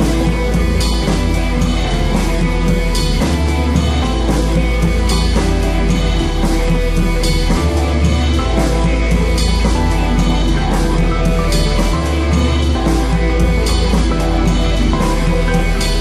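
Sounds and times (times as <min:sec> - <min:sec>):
heavy bass line: 0:00.0 - 0:16.0
rock music with guitar and drums: 0:00.0 - 0:16.0.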